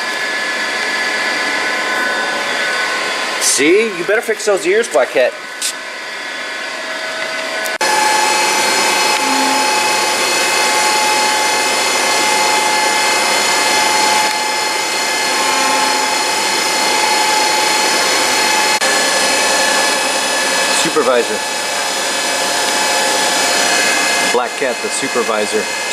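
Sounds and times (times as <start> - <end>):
power tool whining: 0.0 - 25.9.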